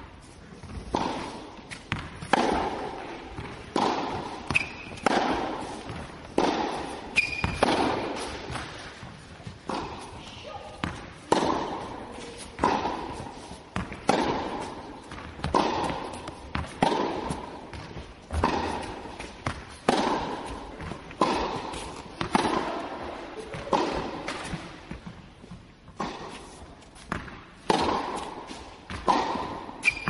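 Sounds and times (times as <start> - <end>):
tennis ball struck by racket: 0.6 - 25.2, 25.9 - 30.0
tennis ball bouncing: 0.6 - 30.0.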